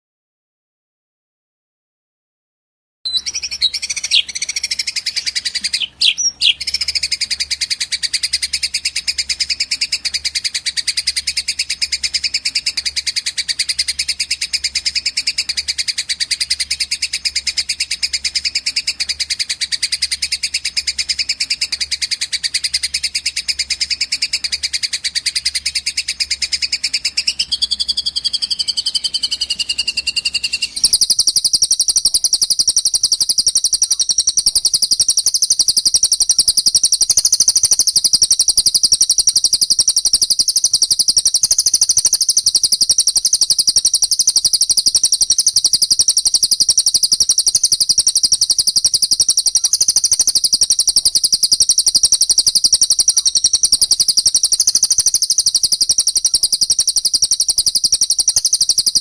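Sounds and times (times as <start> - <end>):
higher bird song: 3.1 - 59.0
songbird chattering trill: 3.1 - 59.0.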